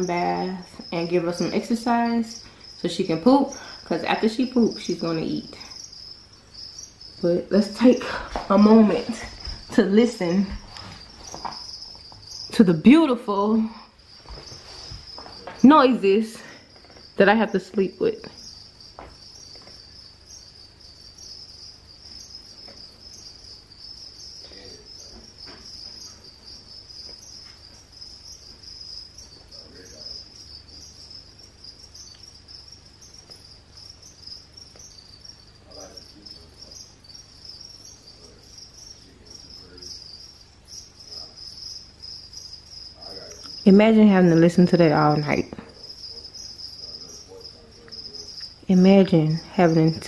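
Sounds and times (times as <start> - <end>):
crickets chirping: 0.0 - 50.0.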